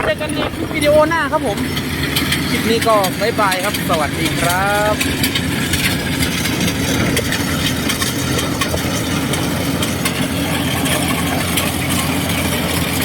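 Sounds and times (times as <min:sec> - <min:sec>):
combine harvester engine hum: 0:00.0 - 0:13.0
machinery ticking: 0:00.0 - 0:13.0.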